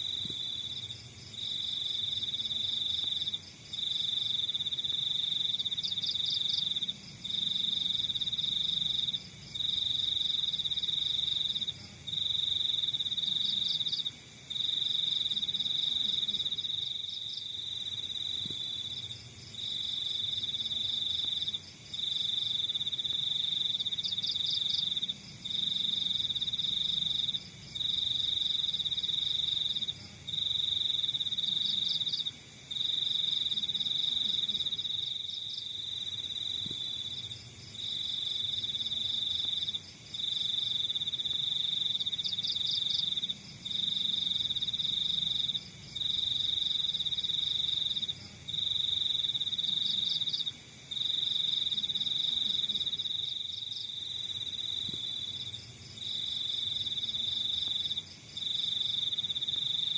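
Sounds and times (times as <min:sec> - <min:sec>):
crickets trilling: 0:00.0 - 0:59.9
faint insect chirping: 0:00.0 - 0:59.9.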